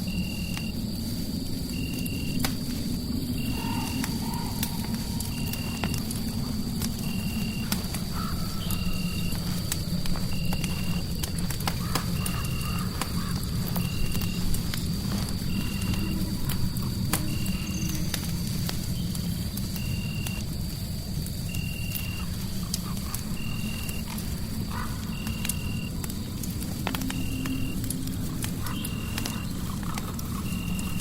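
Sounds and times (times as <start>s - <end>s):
fireplace crackling: 0.0s - 31.0s.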